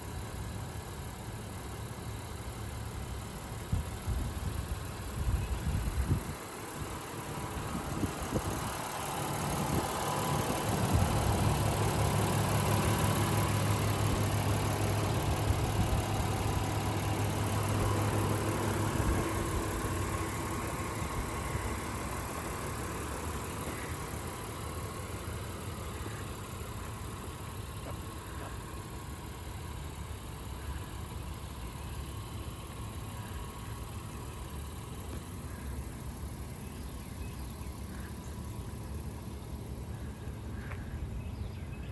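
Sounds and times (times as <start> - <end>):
car engine idling: 0.0 - 41.9
engine knocks: 3.6 - 41.1.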